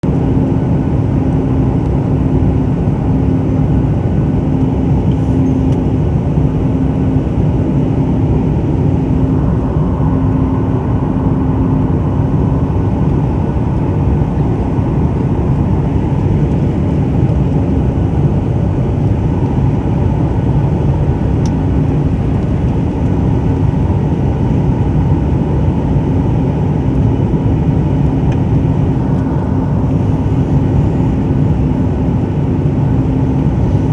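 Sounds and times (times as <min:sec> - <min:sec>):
constant hum: 0:00.0 - 0:33.9
jet engine cabin rumble: 0:00.0 - 0:33.9.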